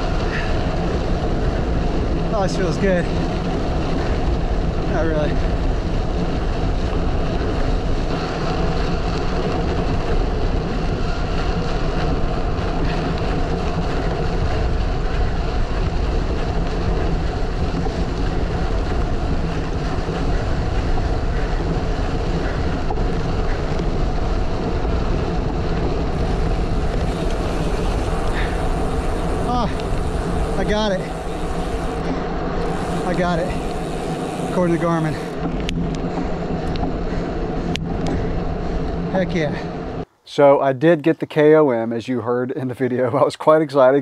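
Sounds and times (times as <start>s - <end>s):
wind buffeting microphone: 0.0s - 40.1s
bike rolling noise: 0.0s - 40.2s.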